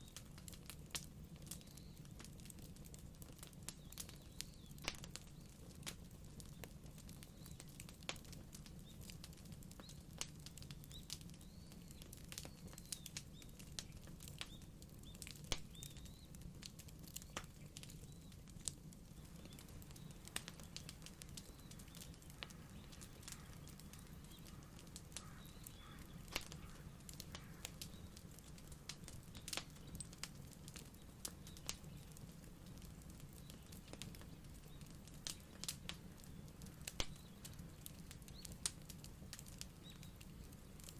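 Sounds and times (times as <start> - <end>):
burning wood pops and snaps: 0.0 - 40.9
low steady fire rumble: 0.0 - 40.9.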